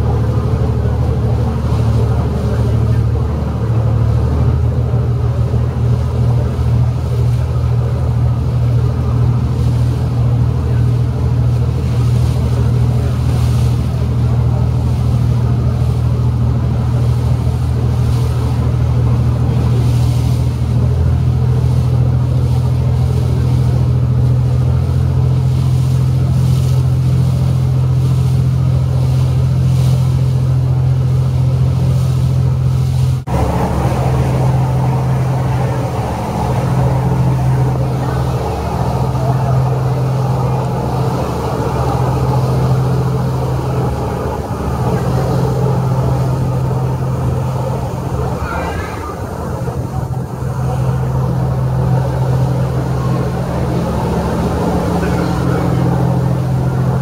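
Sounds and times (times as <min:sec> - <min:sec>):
ferry engine drone: 0:00.0 - 0:57.0
rushing wind and water: 0:00.0 - 0:57.0.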